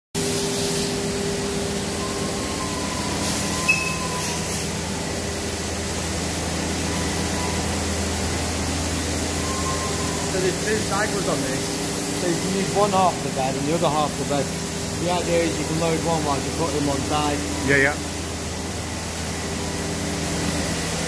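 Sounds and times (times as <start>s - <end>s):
workshop machinery humming: 0.2s - 21.0s.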